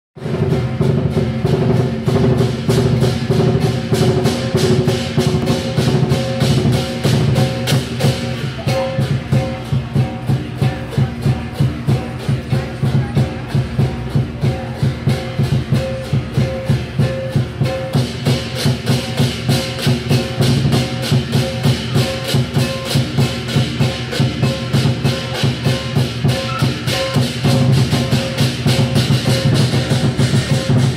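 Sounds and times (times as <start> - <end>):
cymbals clashing: 0.2 - 30.9
gong: 0.2 - 30.9
large drum beating: 0.2 - 30.9.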